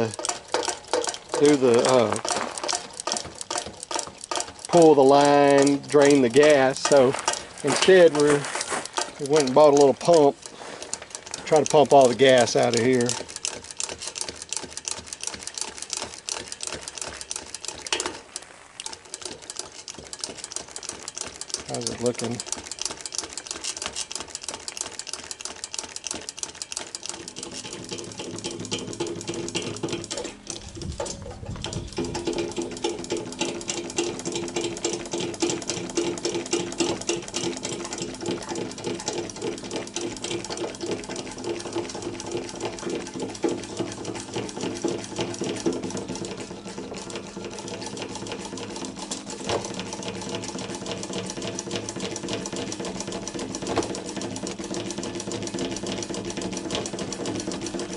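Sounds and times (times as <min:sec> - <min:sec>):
fuel transfer pump buzzing: 0:00.0 - 0:57.9.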